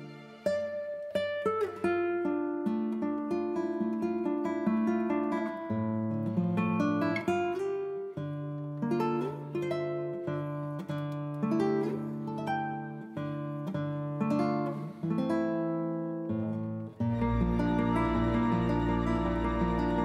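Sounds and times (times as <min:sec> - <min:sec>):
acoustic guitar slow chords: 0:00.0 - 0:20.0.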